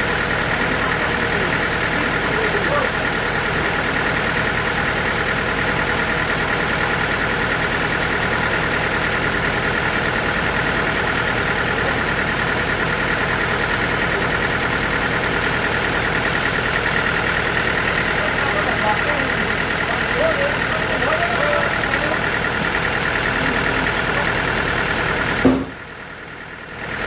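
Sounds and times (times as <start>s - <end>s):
machinery drone: 0.0s - 26.8s.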